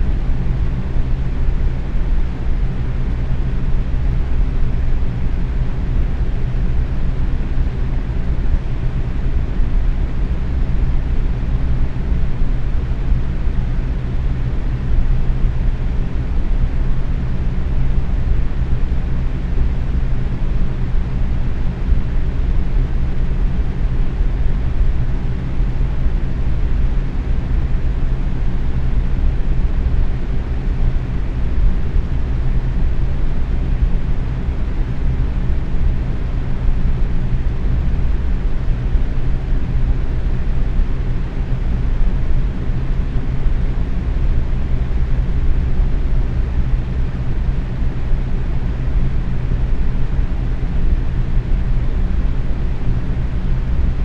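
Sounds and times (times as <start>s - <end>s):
box fan running: 0.0s - 54.0s.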